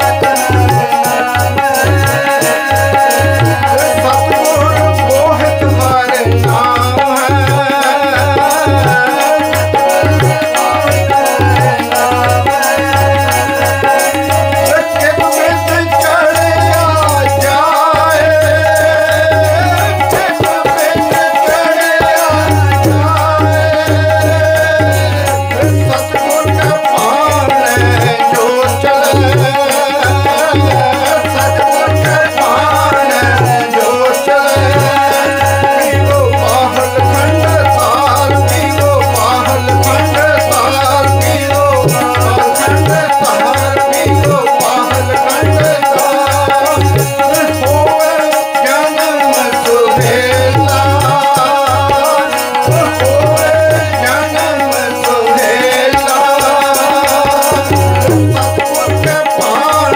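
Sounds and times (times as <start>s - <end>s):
harmonium drone: 0.0s - 59.9s
man singing a hymn: 0.0s - 59.9s
tabla drumming: 0.0s - 59.9s.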